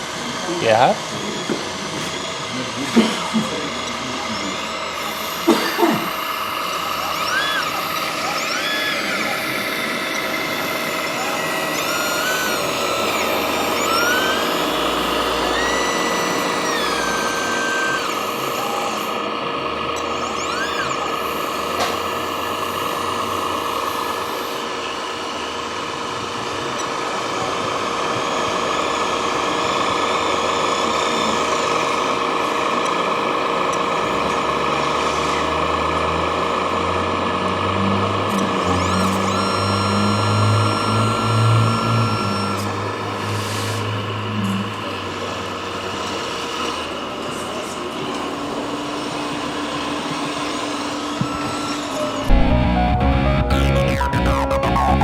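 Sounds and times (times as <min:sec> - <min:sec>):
model machine motors whining: 0:00.0 - 0:55.0.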